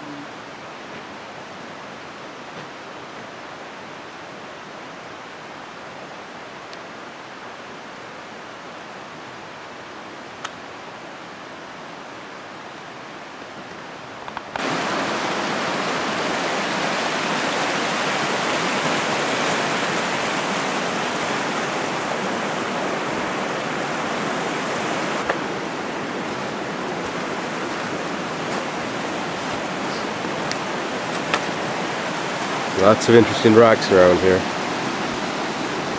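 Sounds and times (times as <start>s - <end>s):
stream water flowing: 0.0s - 35.9s.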